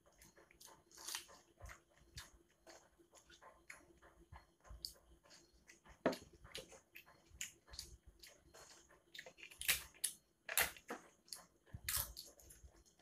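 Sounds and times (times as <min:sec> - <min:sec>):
crunchy chewing: 0:00.0 - 0:04.2, 0:04.8 - 0:13.0.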